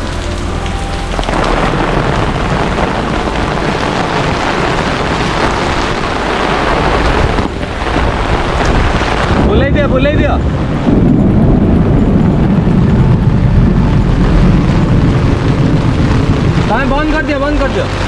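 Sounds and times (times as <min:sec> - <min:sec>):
heavy rain downpour: 0:00.0 - 0:18.0.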